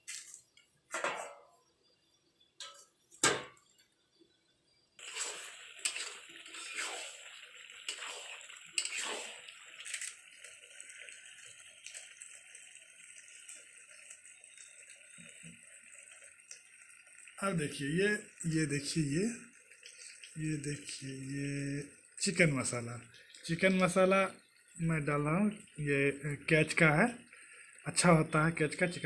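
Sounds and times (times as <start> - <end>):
curry sizzling and crackling: 0.0 - 1.3, 4.9 - 29.0.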